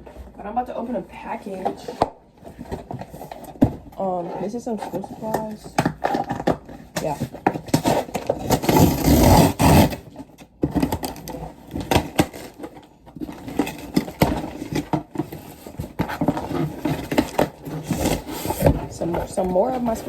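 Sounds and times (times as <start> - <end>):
packaging crackling and rustling: 2.4 - 20.0.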